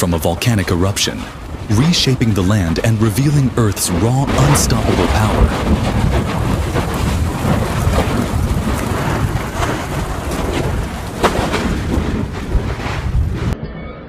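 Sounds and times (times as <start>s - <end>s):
sharp crack: 0.0s - 13.6s
volcanic rumble and hiss: 0.0s - 13.6s.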